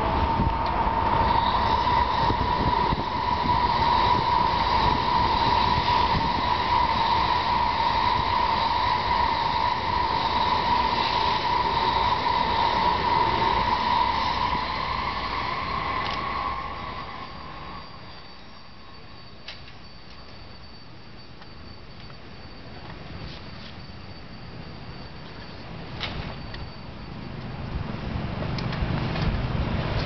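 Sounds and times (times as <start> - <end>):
train passing at speed: 0.0 - 21.0, 22.0 - 30.0.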